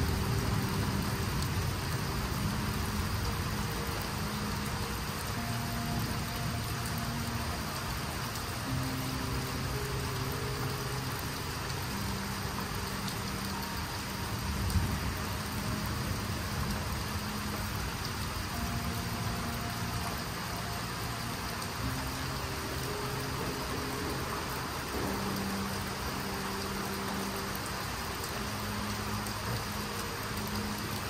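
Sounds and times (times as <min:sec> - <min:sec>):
faint low music: 0:00.0 - 0:31.0
steady rain falling: 0:00.0 - 0:31.0.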